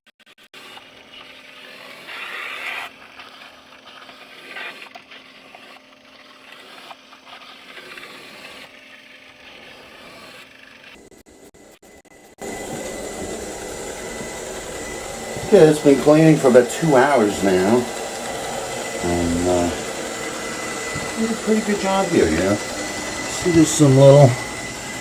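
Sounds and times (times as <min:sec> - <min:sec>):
brushes scraping over grit: 0:00.6 - 0:11.0, 0:12.4 - 0:25.0
vacuum motor hum: 0:00.6 - 0:25.0.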